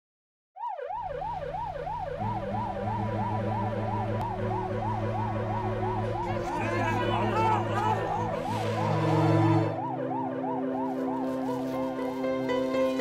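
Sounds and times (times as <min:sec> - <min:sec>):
fire engine siren yelping: 0:00.6 - 0:13.0.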